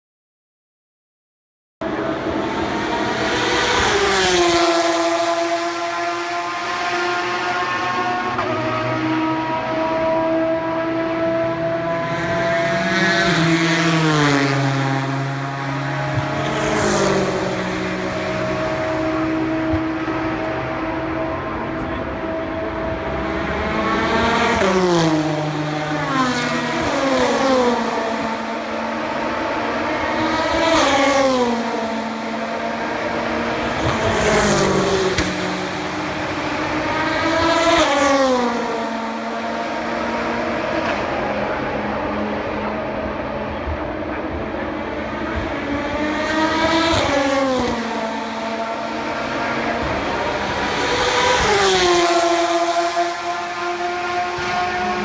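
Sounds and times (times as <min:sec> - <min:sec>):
race cars passing at speed: 0:01.8 - 0:55.0.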